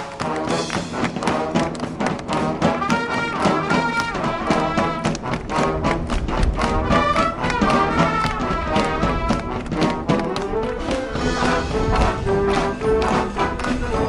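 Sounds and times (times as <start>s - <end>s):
driving drum beat: 0.0s - 14.0s
marching band brass: 0.0s - 14.0s.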